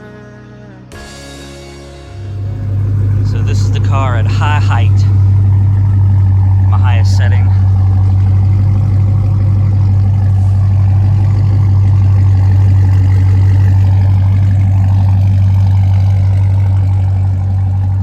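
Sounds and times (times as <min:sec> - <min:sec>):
car engine idling: 0:02.1 - 0:18.0.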